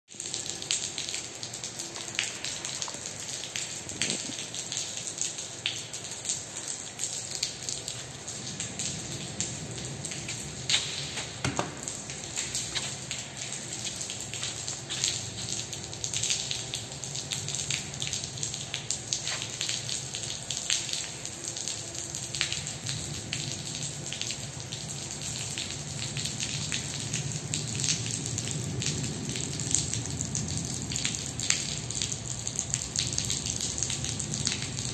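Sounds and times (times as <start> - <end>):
water dripping onto concrete: 0.1 - 34.9.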